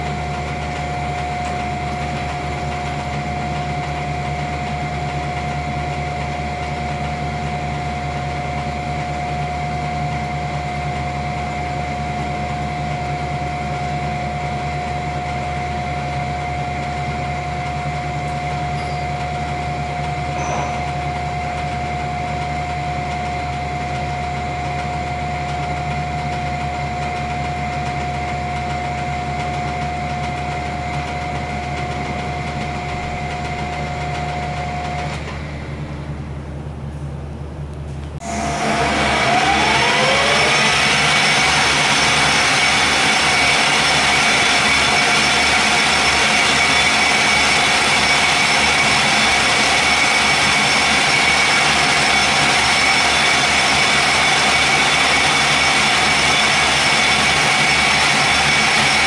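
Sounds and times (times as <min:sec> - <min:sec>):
lathe running: 0:00.0 - 0:36.5, 0:38.2 - 0:59.0.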